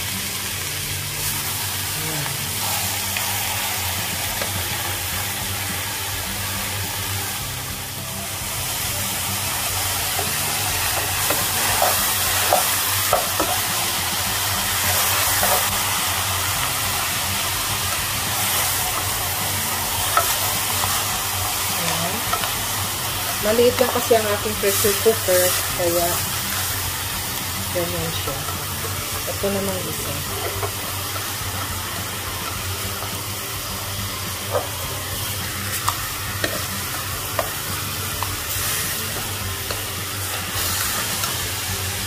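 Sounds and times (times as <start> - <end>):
meat sizzling in hot oil: 0.0 - 42.0.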